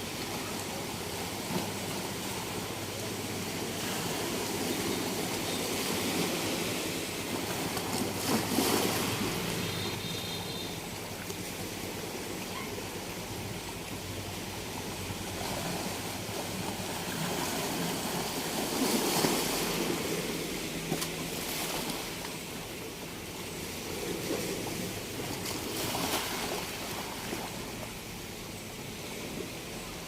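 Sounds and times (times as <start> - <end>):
sea waves washing onto beach: 0.0 - 30.0.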